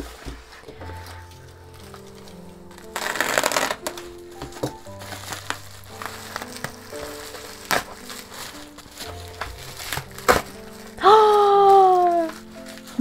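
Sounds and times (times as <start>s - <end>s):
plastic crinkling and tapping: 0.0s - 13.0s
soft piano music: 0.0s - 13.0s
plastic mailer ripping: 0.9s - 13.0s.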